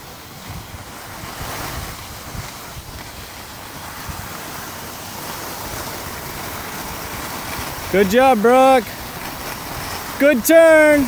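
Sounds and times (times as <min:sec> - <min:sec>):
skis scraping over snow: 0:00.0 - 0:11.0
wind buffeting microphone: 0:00.0 - 0:11.0.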